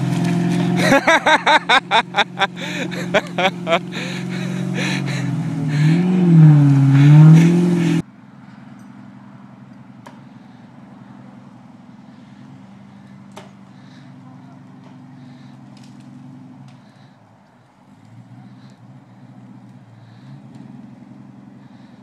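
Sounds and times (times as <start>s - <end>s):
truck engine revving under load: 0.0s - 22.0s.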